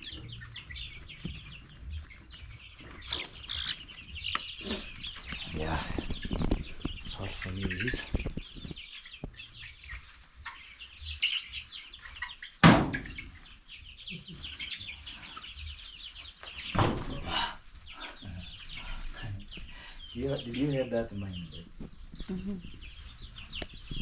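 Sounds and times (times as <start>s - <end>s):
young chickens cheeping and clucking: 0.0s - 24.0s.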